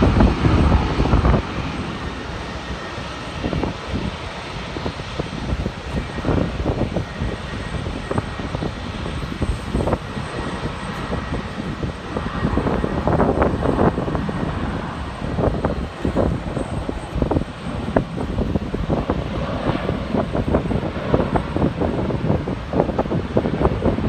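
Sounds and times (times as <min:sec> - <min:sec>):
jet engines rushing: 0:00.0 - 0:24.0
wind buffeting microphone: 0:00.0 - 0:24.0.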